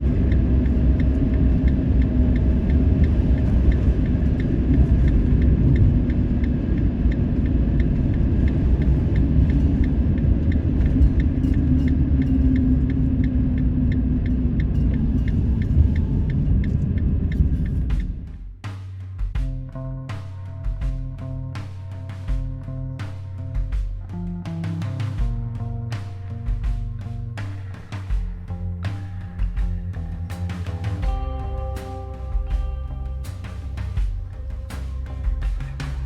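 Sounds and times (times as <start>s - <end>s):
light regular ticking: 0.0s - 36.0s
vehicle engine and road rumble: 0.0s - 36.0s.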